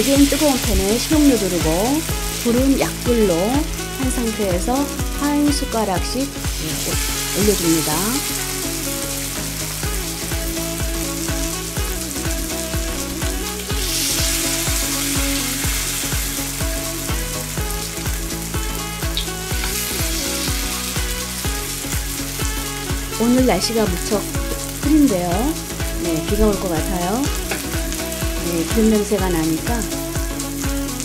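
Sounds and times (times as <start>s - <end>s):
fritters sizzling in oil: 0.0s - 31.0s
soft background music: 0.0s - 31.0s.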